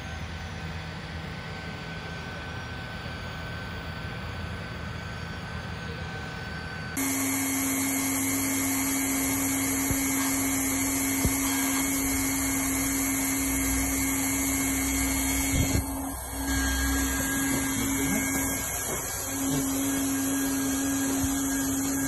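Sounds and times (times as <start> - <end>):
hot-air blower whirring hiss: 0.0 - 22.0.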